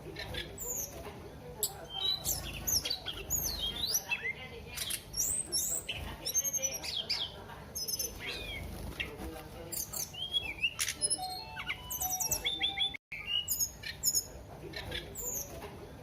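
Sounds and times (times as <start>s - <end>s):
songbird singing: 0.0s - 1.0s, 1.6s - 15.6s.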